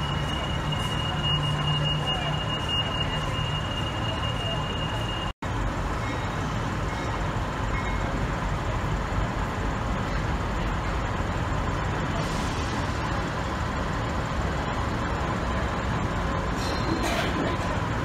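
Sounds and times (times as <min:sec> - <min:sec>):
diesel locomotive engine drone: 0:00.0 - 0:18.0
station hubbub: 0:00.0 - 0:18.0.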